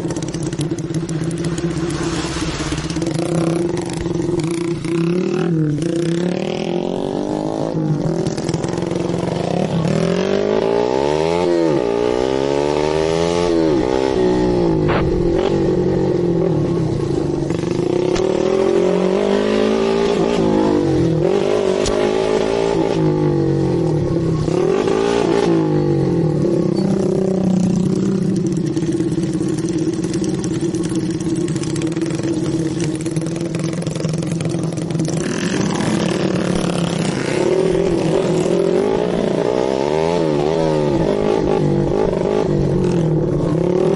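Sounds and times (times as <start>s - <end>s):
dirt bike engine revving: 0.0s - 16.8s, 24.4s - 43.9s.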